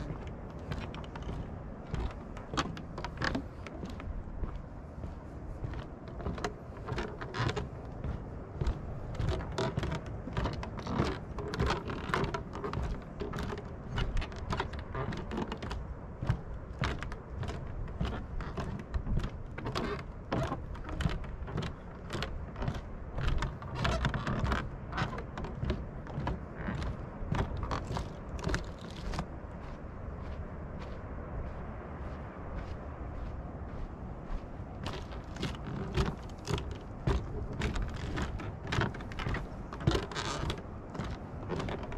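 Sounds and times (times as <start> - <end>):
footsteps on wooden boardwalk: 0.0 - 41.9
steady low rumble: 0.0 - 41.9.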